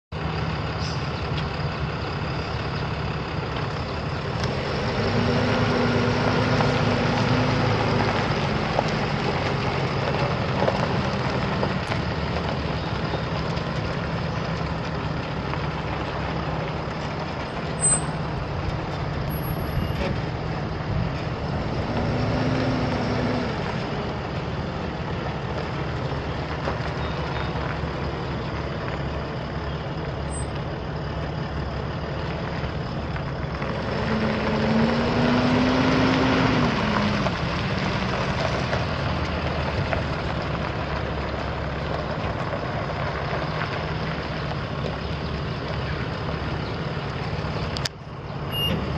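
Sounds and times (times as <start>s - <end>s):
diesel truck engine idling: 0.1s - 48.9s.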